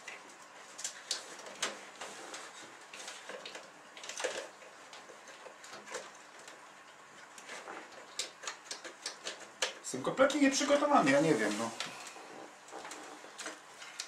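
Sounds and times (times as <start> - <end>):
cable clicks and rustles: 0.0 - 14.0.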